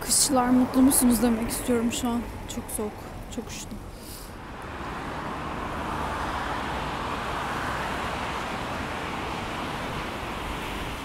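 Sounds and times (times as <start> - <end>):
road traffic going by: 0.0 - 11.0.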